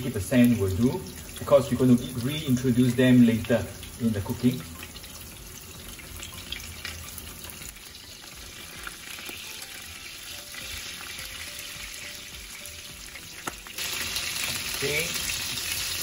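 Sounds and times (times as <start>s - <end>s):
prawns sizzling in oil: 0.0s - 16.0s.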